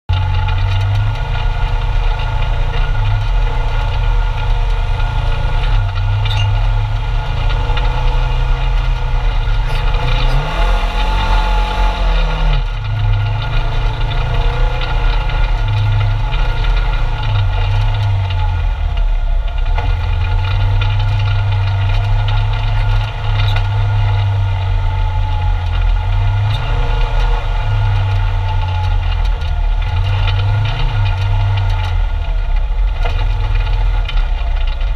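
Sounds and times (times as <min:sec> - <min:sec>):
vehicle engine droning: 0:00.1 - 0:34.9.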